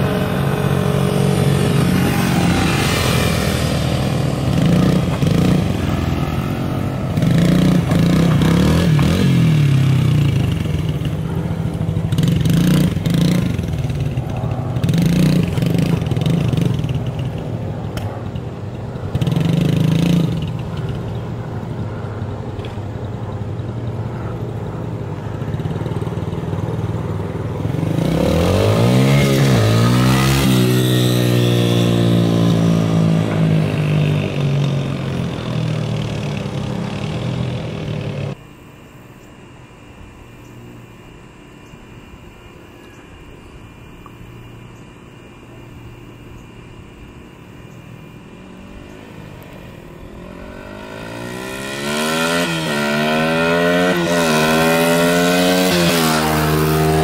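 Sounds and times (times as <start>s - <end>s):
dirt bike engines revving: 0.0s - 38.4s, 42.0s - 57.0s.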